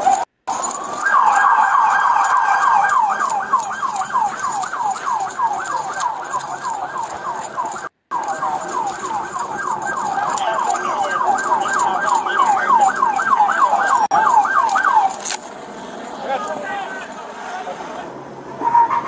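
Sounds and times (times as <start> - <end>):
police siren yelping: 0.0 - 17.2, 18.6 - 19.0.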